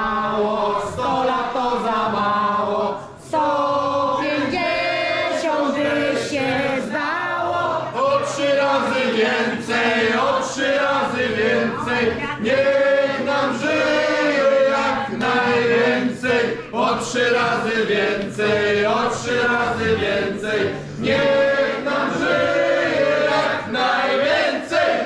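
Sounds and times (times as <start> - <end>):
group of people singing together: 0.0 - 25.0.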